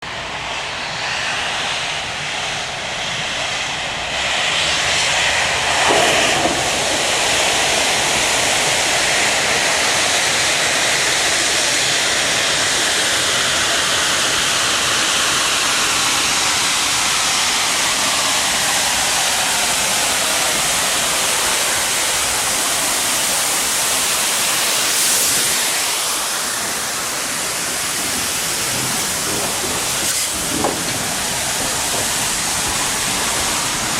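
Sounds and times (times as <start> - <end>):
steam locomotive hissing: 0.1 - 33.9.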